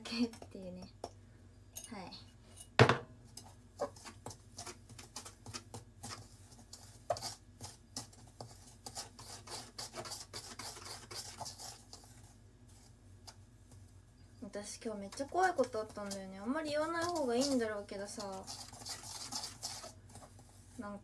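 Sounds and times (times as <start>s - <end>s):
dough rubbing and scraping in bowl: 3.2s - 21.0s.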